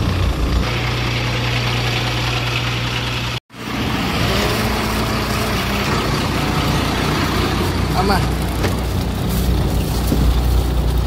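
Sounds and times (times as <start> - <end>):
lorry engine idling: 0.0 - 11.0
road noise with engines: 0.0 - 11.0.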